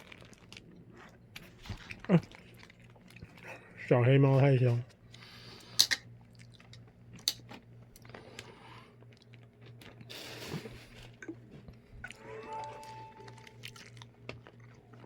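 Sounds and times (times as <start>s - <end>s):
cat chewing and crunching: 0.0s - 12.1s, 13.3s - 15.0s.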